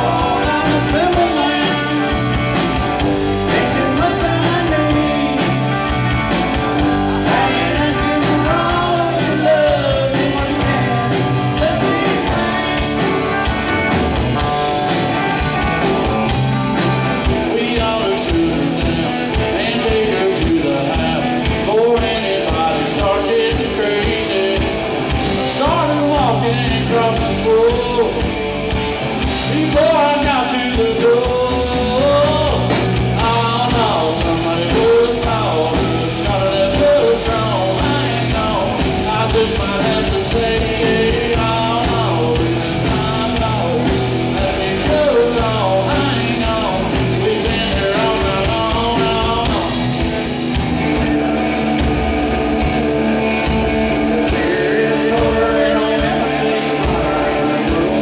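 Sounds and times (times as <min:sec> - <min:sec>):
bending lead guitar melody: 0:00.0 - 0:58.0
live rock band playing: 0:00.0 - 0:58.0.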